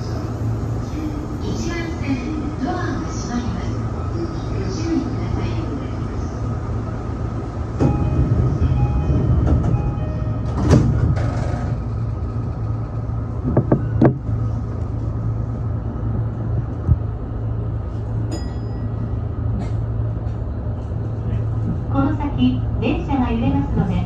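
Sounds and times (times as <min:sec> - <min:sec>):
electric train rumble and hum: 0:00.0 - 0:24.0.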